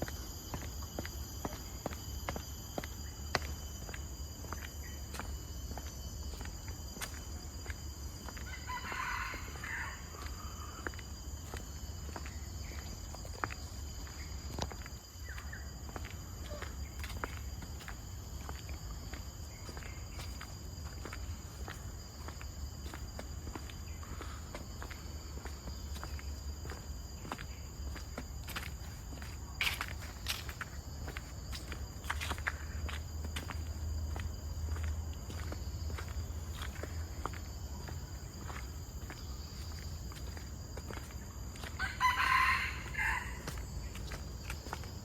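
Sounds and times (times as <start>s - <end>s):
footsteps on forest trail: 0.0s - 45.0s
insects buzzing: 0.0s - 45.0s.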